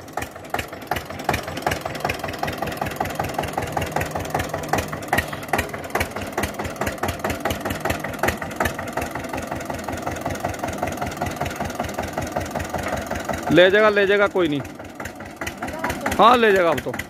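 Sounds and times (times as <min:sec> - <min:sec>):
diesel tractor engine chugging: 0:00.0 - 0:17.0.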